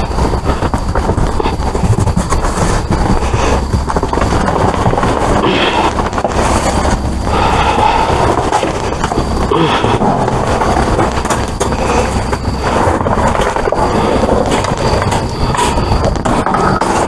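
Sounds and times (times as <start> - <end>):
trash clattering: 0.0 - 17.0
wire cage rattling and scraping: 0.0 - 17.0.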